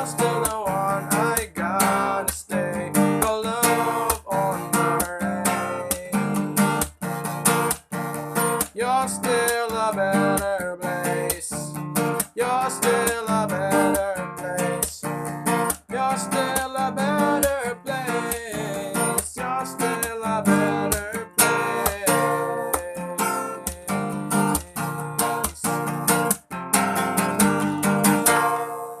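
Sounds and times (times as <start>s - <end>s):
strummed acoustic guitar chords: 0.0s - 29.0s.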